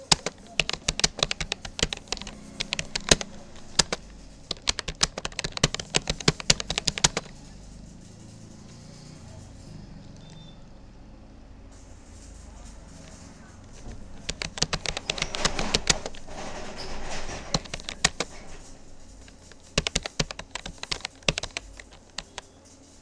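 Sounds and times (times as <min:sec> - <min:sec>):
computer keyboard typing: 0:00.0 - 0:10.6, 0:11.7 - 0:23.0.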